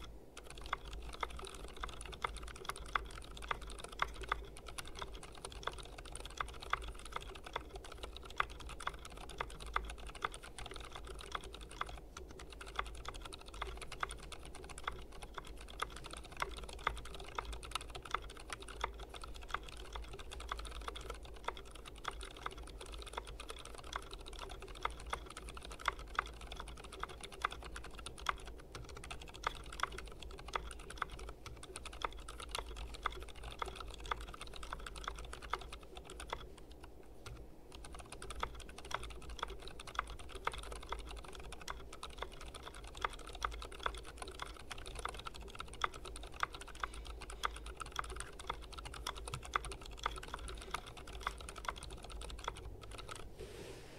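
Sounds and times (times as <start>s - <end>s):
mechanical keyboard typing: 0.0s - 53.3s.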